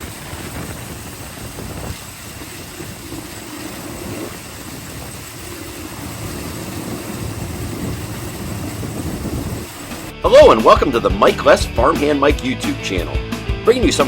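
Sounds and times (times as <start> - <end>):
diesel engine running: 0.0 - 12.4.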